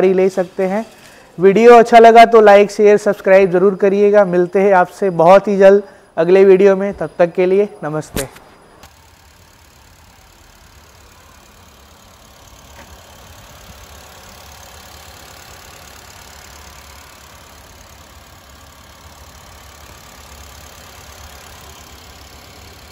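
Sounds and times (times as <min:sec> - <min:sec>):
car engine idling: 0:00.0 - 0:06.2, 0:08.6 - 0:22.9.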